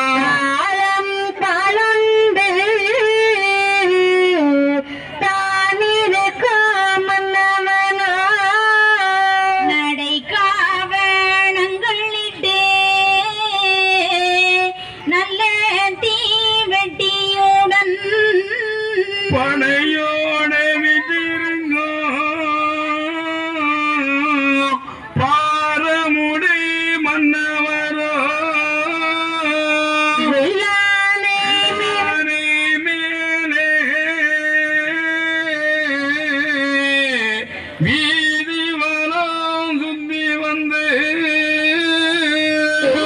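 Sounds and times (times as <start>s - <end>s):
person chanting long held notes: 0.0s - 43.0s.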